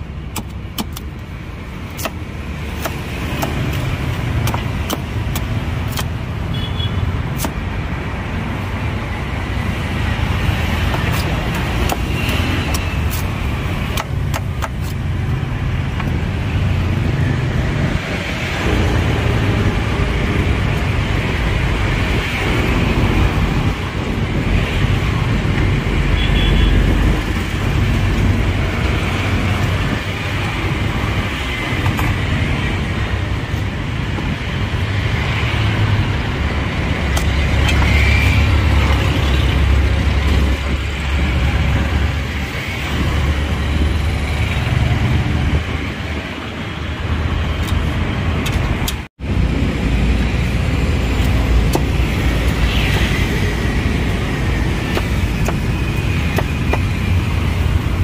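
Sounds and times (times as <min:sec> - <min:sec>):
street traffic rumble: 0:00.0 - 0:58.0.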